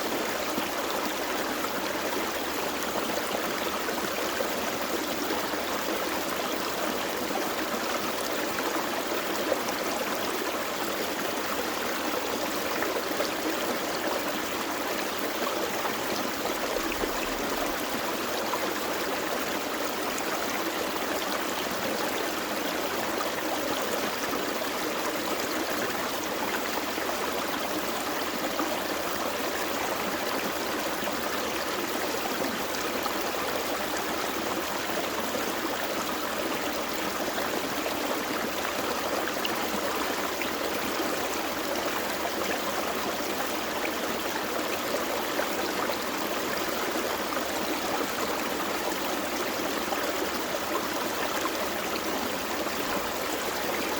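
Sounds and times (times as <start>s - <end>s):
creek flowing over rocks: 0.0s - 53.9s.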